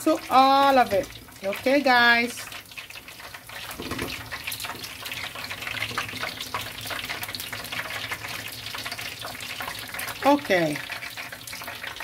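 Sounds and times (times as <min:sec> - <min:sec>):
deep-frying sizzle with crackling pops: 0:00.0 - 0:12.0.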